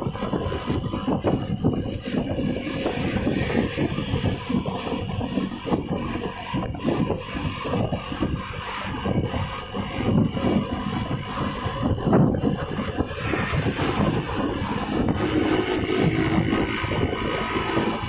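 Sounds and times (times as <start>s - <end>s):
bus exhaust rumbling: 0.0s - 18.0s.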